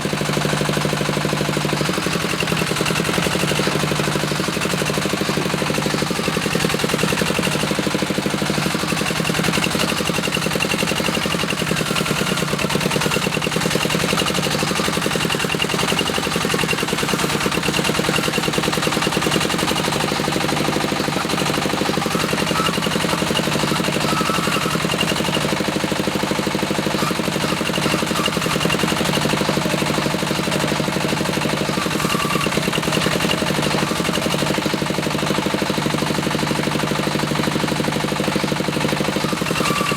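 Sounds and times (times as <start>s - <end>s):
diesel engine knocking: 0.0s - 39.9s.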